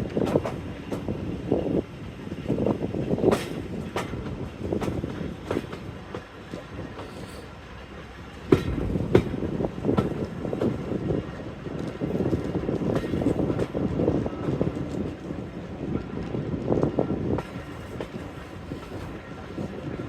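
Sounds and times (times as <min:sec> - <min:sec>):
train running rumble: 0:00.0 - 0:20.0
train wheels clicking over rail joints: 0:00.0 - 0:20.0.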